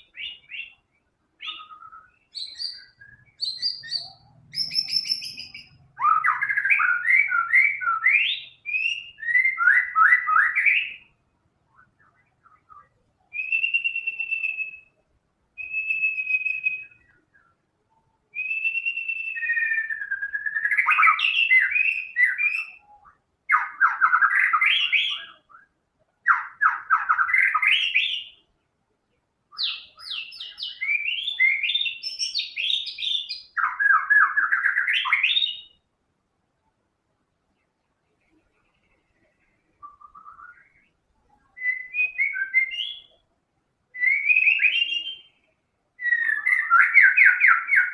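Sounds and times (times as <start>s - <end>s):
bird singing whistles and trills: 0.0s - 15.0s, 15.6s - 28.5s, 29.5s - 35.9s, 39.2s - 43.2s, 43.9s - 47.9s.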